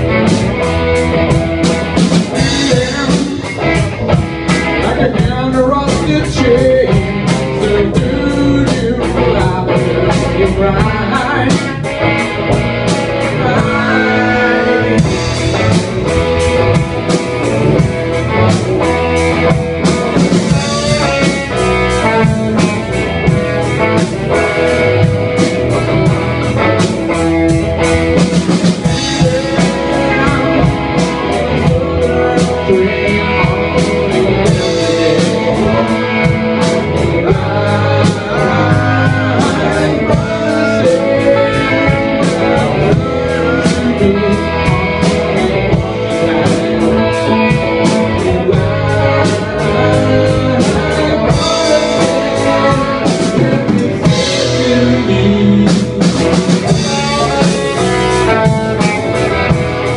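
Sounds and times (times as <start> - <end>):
bass guitar: 0.0 - 59.9
drum beat and cymbals: 0.0 - 59.9
electric guitar: 0.0 - 59.9.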